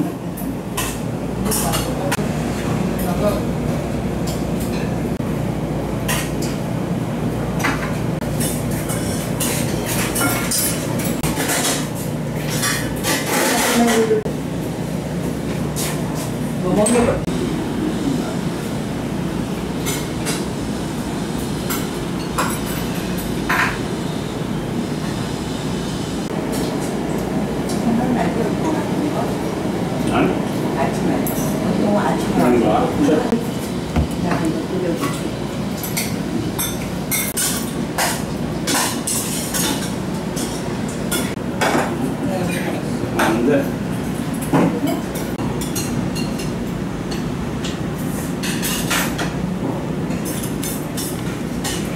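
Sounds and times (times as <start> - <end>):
restaurant room noise: 0.0 - 51.9.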